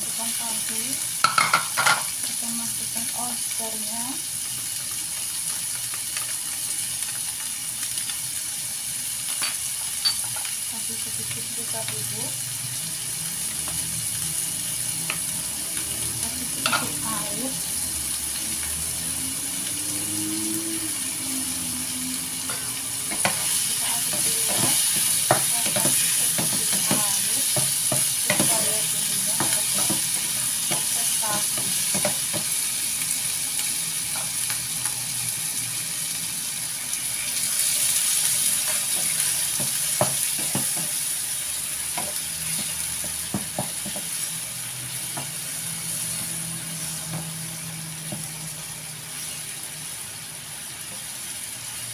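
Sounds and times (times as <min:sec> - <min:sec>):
food sizzling in a frying pan: 0:00.0 - 0:51.9.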